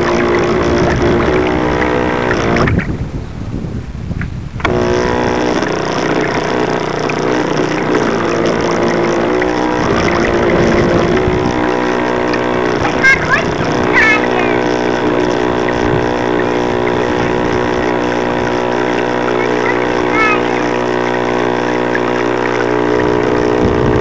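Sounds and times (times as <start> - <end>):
model boat motor whining: 0.0 - 3.2, 4.6 - 24.0.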